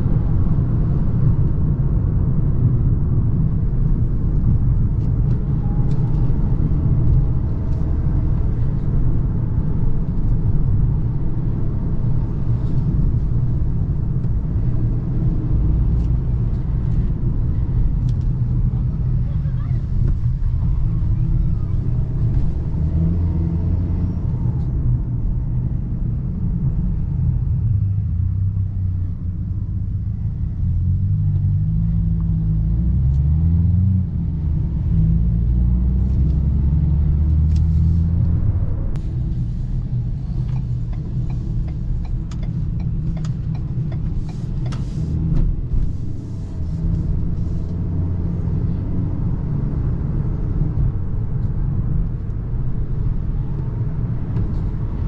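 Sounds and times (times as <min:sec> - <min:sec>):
road noise: 0:00.0 - 0:55.0.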